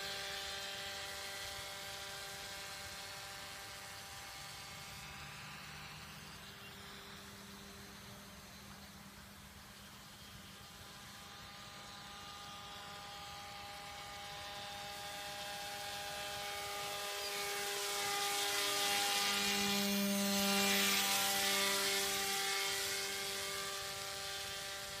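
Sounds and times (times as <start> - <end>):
model aircraft motor buzzing: 0.0 - 25.0.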